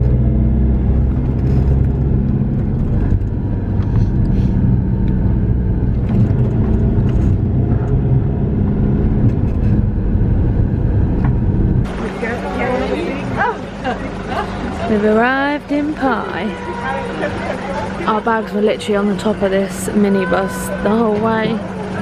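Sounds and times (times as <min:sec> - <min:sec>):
minibus engine running: 0:00.0 - 0:22.0
road noise: 0:00.0 - 0:22.0.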